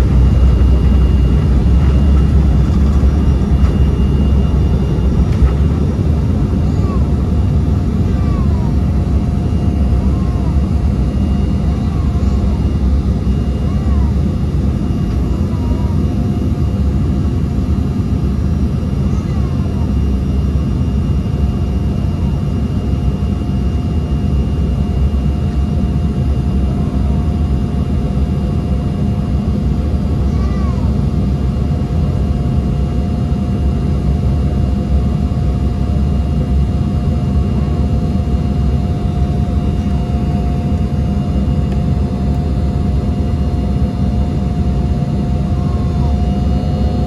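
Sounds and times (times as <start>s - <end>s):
jet engines rumbling with whine: 0.0s - 47.0s.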